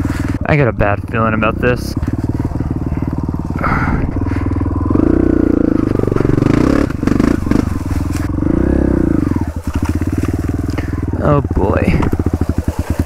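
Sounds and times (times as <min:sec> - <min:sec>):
dirt bike engine revving: 0:00.0 - 0:13.0
bike clattering: 0:01.8 - 0:08.6, 0:09.3 - 0:13.0.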